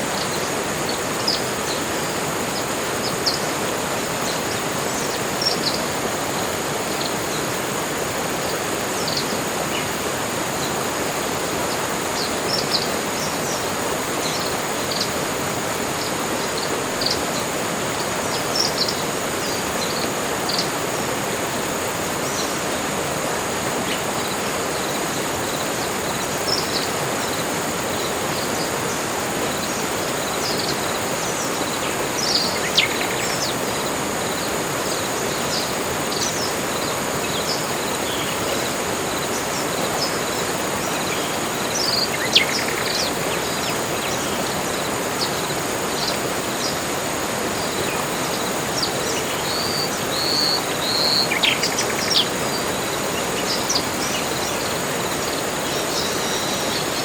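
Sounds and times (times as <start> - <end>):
high insect drone: 0.0 - 57.0
steady hiss: 0.0 - 57.0.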